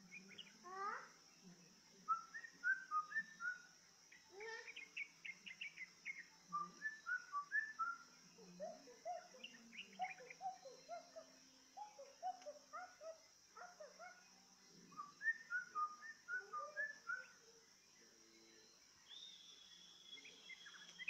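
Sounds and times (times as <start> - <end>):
bird song of whistled notes: 0.0 - 21.0.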